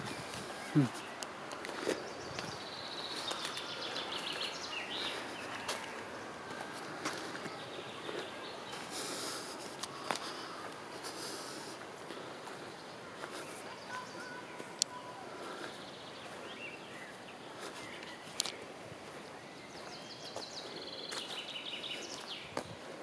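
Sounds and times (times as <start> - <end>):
birds calling: 0.0 - 23.0
woodland background hush: 0.0 - 23.0.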